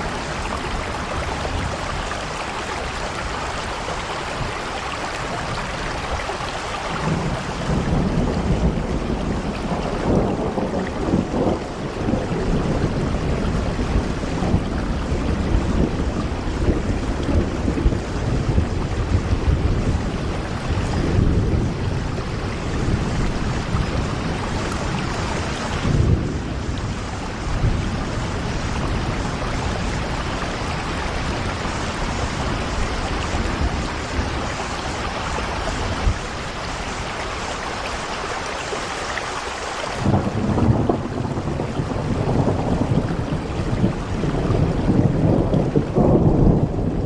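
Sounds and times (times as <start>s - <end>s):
heavy rain on a window: 0.0s - 47.0s.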